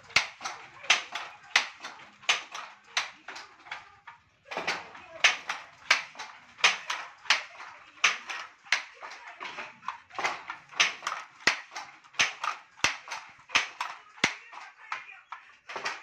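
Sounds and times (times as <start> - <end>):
handloom clattering: 0.0 - 16.0.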